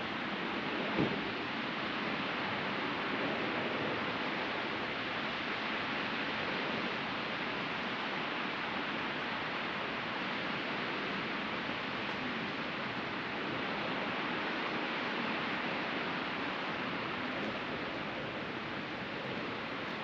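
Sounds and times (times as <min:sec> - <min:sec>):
ocean surf washing ashore: 0:00.0 - 0:20.0.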